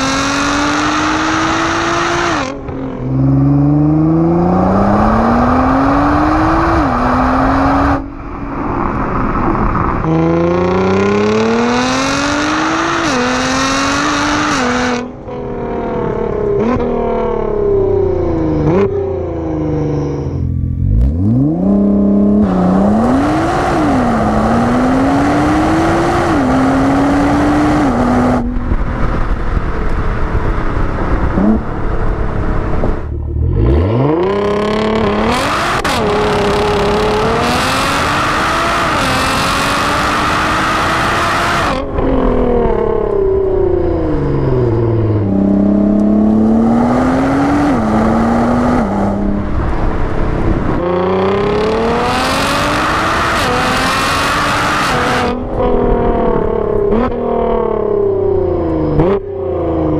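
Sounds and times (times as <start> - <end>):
car exhaust under hard acceleration: 0.0 - 59.9.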